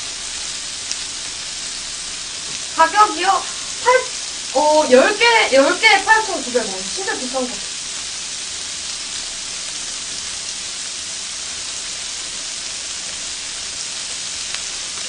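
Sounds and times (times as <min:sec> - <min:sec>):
meat sizzling on a grill plate: 0:00.0 - 0:15.0.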